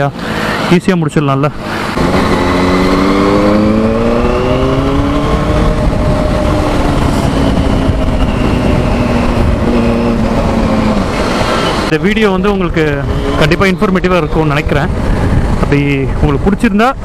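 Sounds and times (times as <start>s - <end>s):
motorcycle engine accelerating: 1.6s - 15.7s.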